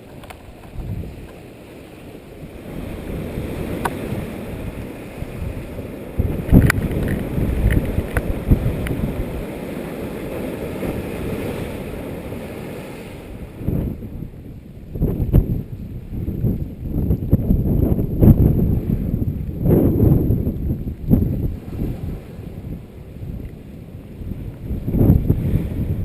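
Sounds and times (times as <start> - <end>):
wind buffeting microphone: 0.0 - 1.5, 2.4 - 26.0.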